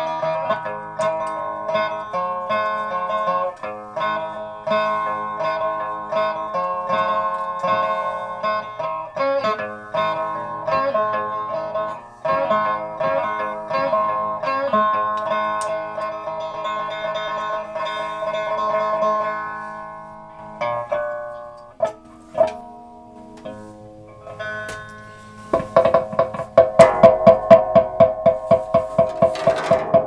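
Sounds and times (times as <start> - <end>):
plucked string instrument: 0.0 - 30.0.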